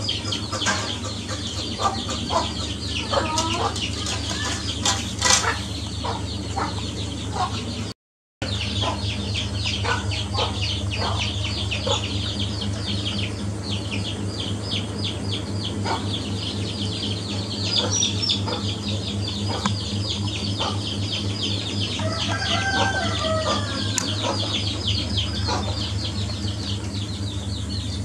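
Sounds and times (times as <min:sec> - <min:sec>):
chickens clucking: 0:00.0 - 0:28.0
steady low hum: 0:00.0 - 0:28.0.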